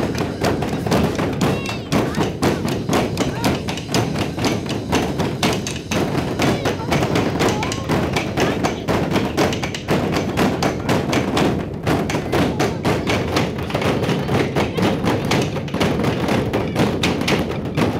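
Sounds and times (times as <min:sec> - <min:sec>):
giant drum beaten with sticks: 0:00.0 - 0:17.9.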